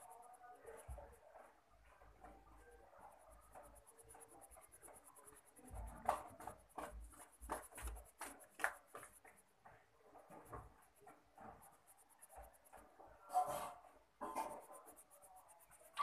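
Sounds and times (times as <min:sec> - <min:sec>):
pencil scratching on paper: 0:02.0 - 0:09.5, 0:10.2 - 0:16.0.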